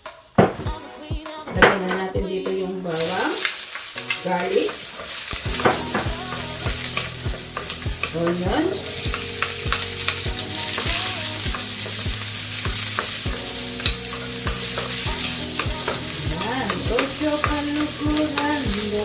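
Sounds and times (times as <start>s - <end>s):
garlic and onions sizzling in oil: 0.0s - 19.0s.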